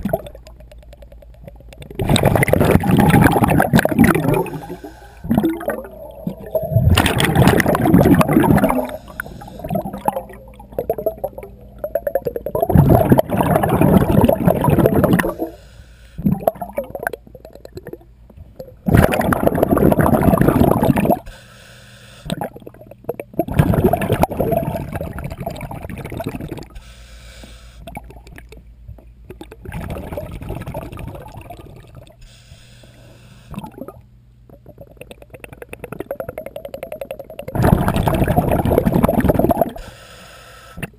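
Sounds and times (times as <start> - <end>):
regulator exhaust bubbling underwater: 0.0 - 15.6, 16.2 - 21.4, 22.2 - 26.8, 27.8 - 32.3, 33.5 - 39.9.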